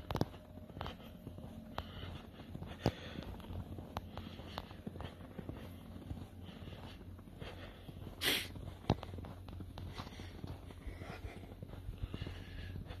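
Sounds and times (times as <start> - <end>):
footsteps on snow: 0.0 - 13.0
low steady hum: 0.0 - 13.0.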